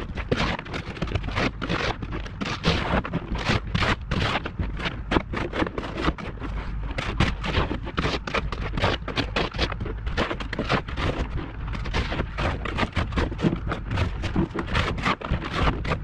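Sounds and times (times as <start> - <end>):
snow shovel scraping ice: 0.0 - 16.0.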